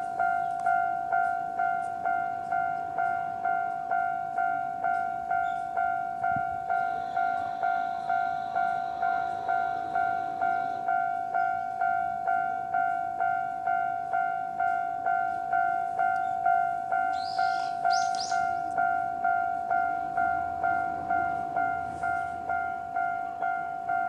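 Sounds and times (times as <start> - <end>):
level crossing two-tone alarm: 4.0 - 24.0.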